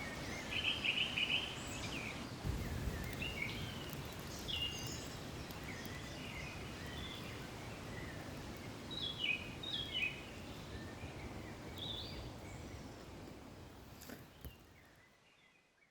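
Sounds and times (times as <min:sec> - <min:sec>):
songbirds chirping: 0:00.0 - 0:15.9.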